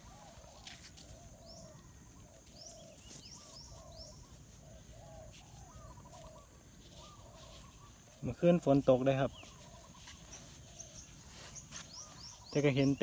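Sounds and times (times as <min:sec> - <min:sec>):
high upward-sweeping bird chirps: 0:00.0 - 0:13.0.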